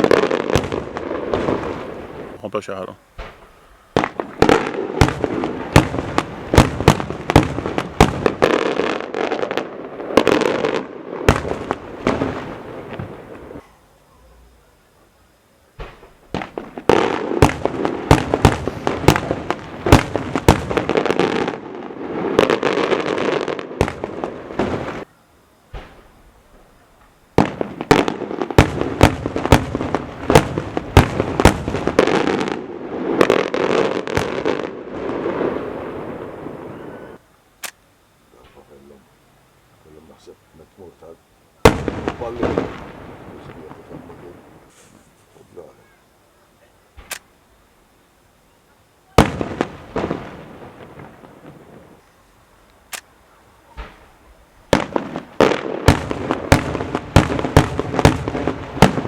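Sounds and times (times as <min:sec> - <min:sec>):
fireworks bangs and crackle: 0:00.0 - 0:13.7, 0:15.8 - 0:37.2, 0:41.6 - 0:45.7, 0:49.1 - 0:52.1, 0:53.7 - 0:59.0.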